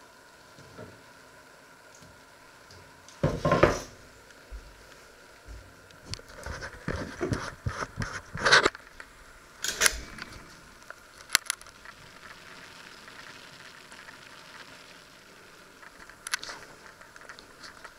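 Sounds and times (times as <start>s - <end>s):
faint steady background noise: 0.0s - 17.9s.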